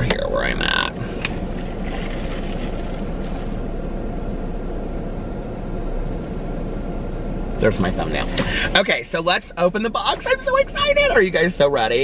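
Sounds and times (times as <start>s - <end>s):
car engine idling: 0.0s - 12.0s
car ventilation running: 0.0s - 12.0s.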